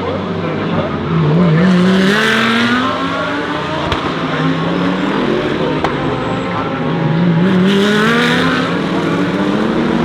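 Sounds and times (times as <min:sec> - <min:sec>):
race cars accelerating hard: 0:00.0 - 0:10.0.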